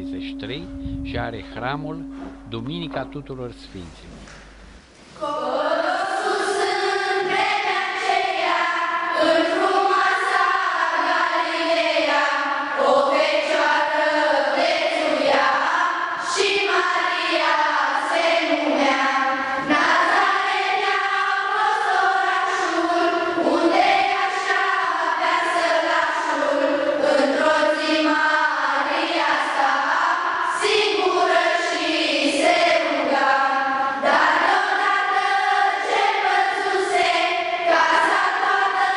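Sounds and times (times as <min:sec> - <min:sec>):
choir of high voices singing: 0:05.2 - 0:38.9.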